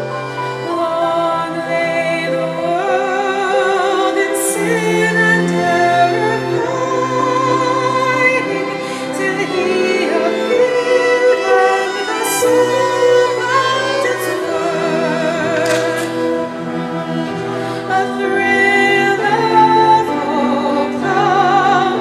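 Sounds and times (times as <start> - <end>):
choir singing church music: 0.0 - 22.0.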